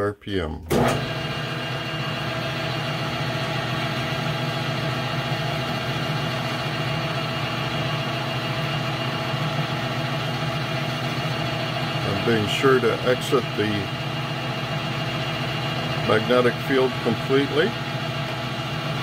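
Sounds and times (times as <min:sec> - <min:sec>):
metal lathe running: 0:00.7 - 0:19.0.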